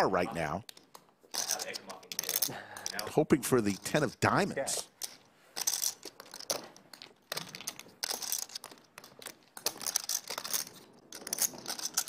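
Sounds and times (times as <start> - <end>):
poker chips clicking: 0.6 - 4.0, 4.8 - 12.0.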